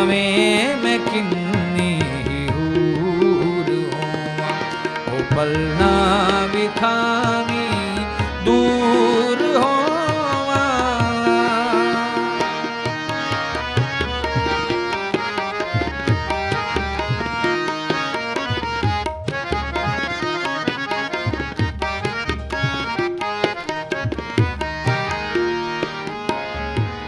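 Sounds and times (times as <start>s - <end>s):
harmonium melody: 0.0s - 27.0s
tabla rhythm: 0.0s - 27.0s.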